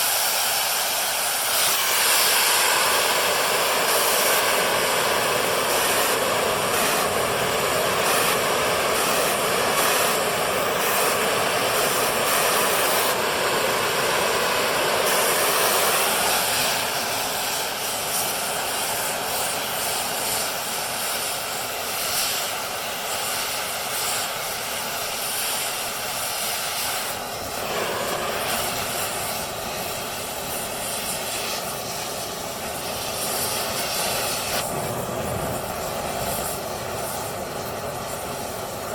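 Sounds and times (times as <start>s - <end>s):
cutting torch flame roaring: 0.0s - 38.9s.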